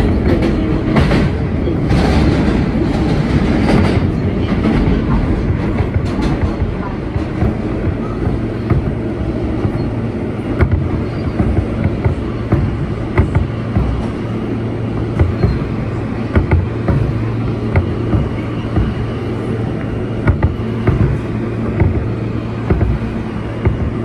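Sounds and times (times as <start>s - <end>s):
subway car hum and rumble: 0.0s - 24.0s
wheel clicks over rail joints: 0.0s - 24.0s.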